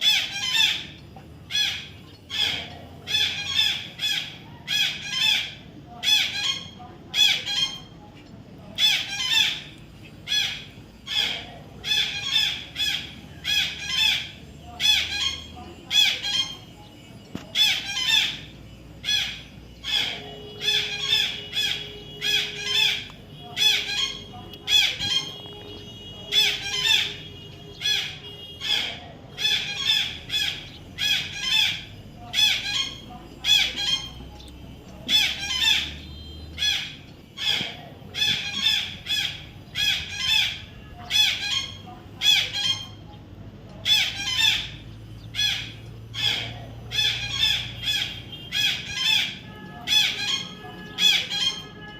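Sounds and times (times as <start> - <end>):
baby parrot calling shrilly: 0.0 - 8.0, 8.7 - 43.1, 43.8 - 51.9.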